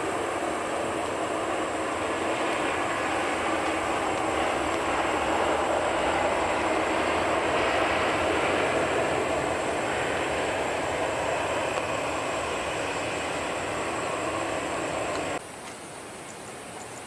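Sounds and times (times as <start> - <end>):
jet engines roaring: 0.0 - 15.4.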